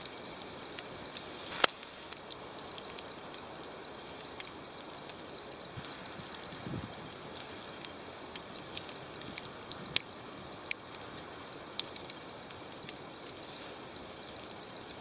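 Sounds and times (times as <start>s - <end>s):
faint small clicks: 0.0s - 13.6s, 14.2s - 14.7s.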